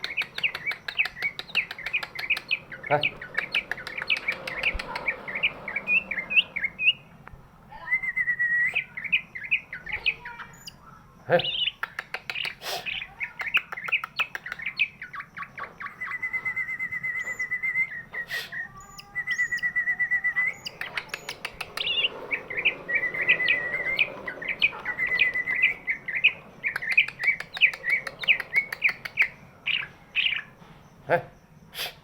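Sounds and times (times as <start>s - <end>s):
bird singing chirps and trills: 0.0s - 31.0s.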